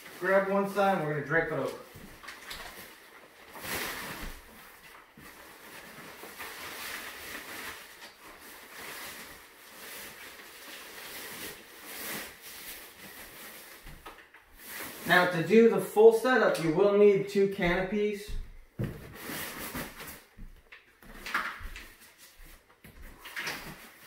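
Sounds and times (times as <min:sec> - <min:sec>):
fabric and plastic cover rustling: 0:00.0 - 0:15.4, 0:17.7 - 0:24.0.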